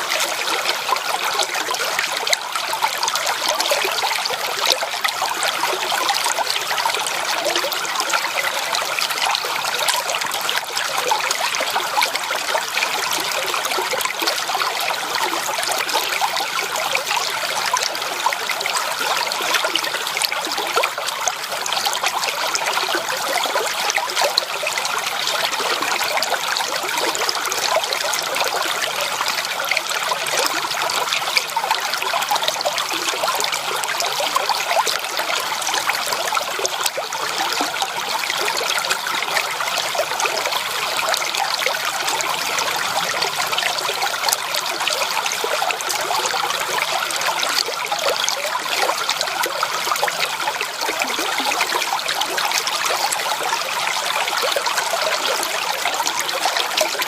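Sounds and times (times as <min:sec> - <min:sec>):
creek babbling over stones: 0:00.0 - 0:57.0.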